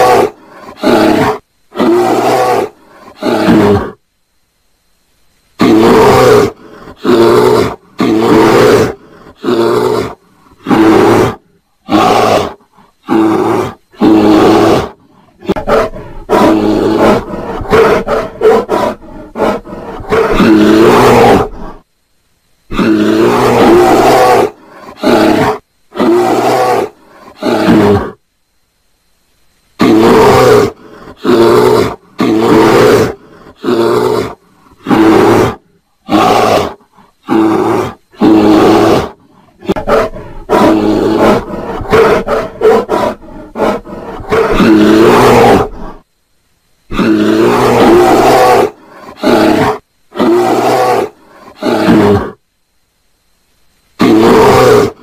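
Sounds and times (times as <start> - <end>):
bear roaring: 0.0 - 4.0, 5.6 - 21.8, 22.7 - 28.2, 29.8 - 46.0, 46.9 - 52.4, 54.0 - 55.0.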